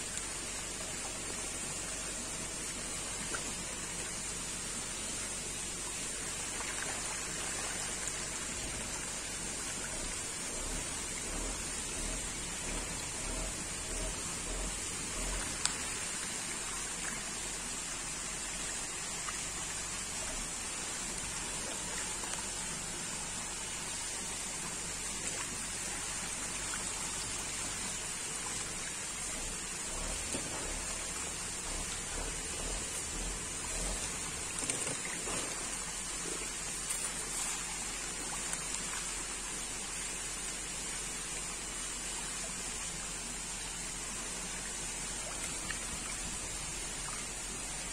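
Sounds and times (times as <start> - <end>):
fish splashing and churning water: 0.0 - 47.9.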